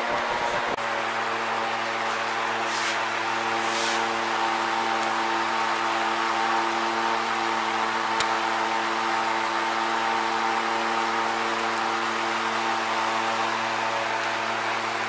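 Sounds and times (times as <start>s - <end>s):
small motors humming: 0.0s - 15.0s.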